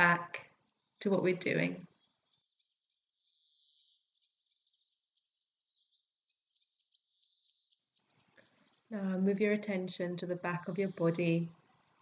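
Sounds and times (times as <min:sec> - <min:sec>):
faint forest birdsong: 0:00.0 - 0:12.0.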